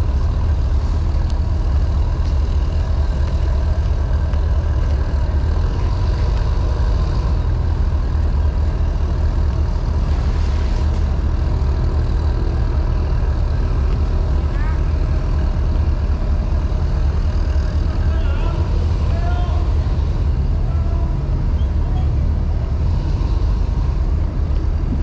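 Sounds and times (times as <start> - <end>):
steel wheels rolling on asphalt: 0.0 - 25.0
vehicle engine rumble: 0.0 - 25.0.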